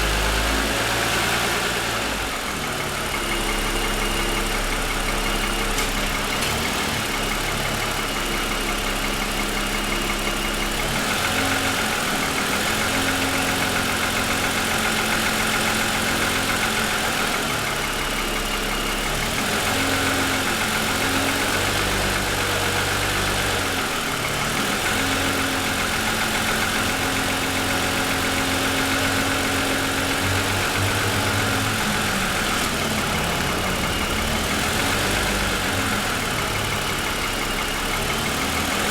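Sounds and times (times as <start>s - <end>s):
car engine idling with rapid knocking: 0.0s - 38.9s.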